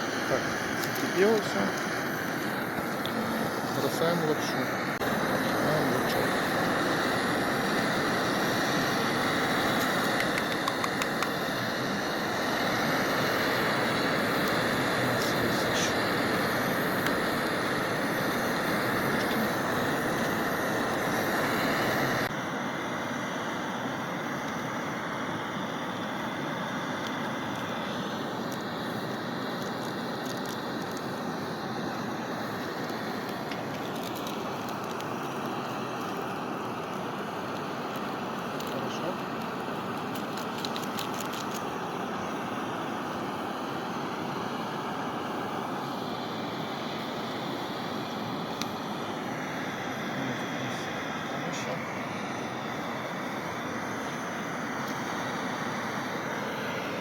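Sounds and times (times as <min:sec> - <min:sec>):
water boiling in pot: 0:00.0 - 0:57.0.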